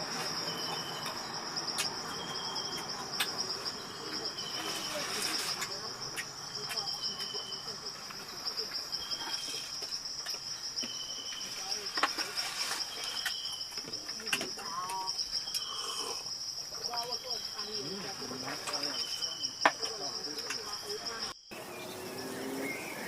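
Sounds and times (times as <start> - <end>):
crickets trilling: 0.0 - 23.0
lower insect chirp: 0.0 - 23.0.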